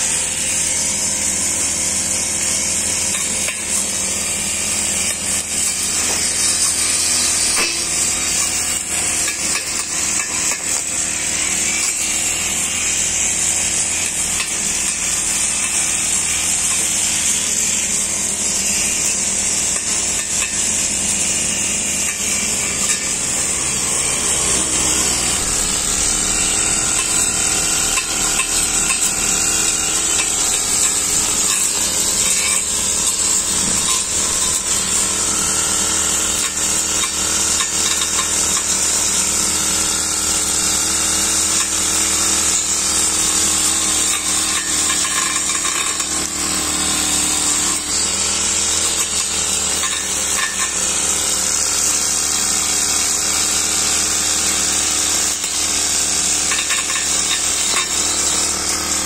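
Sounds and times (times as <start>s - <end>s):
blade cutting grass: 0.0s - 59.0s
brush cutter engine running: 0.0s - 59.0s.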